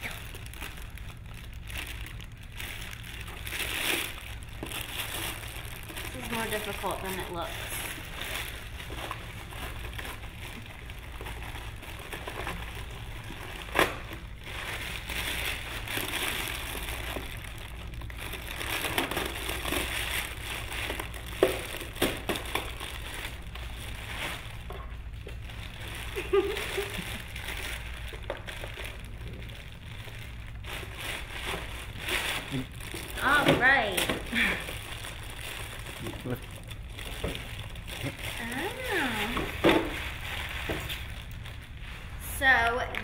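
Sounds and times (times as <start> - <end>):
plastic bag crinkling: 0.0 - 43.0.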